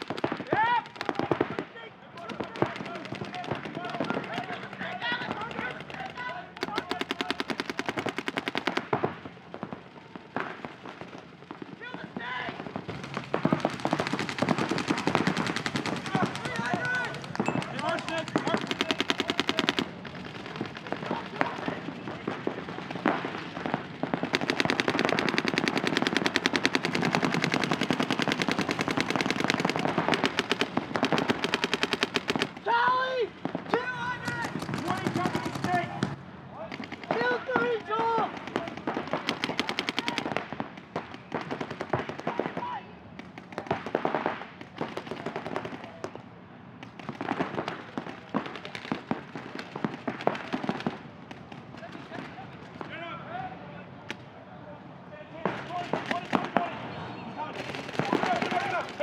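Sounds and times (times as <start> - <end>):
paintball markers firing rapidly: 0.0 - 9.2, 12.8 - 46.2, 46.8 - 52.9, 55.6 - 56.7, 57.6 - 59.0.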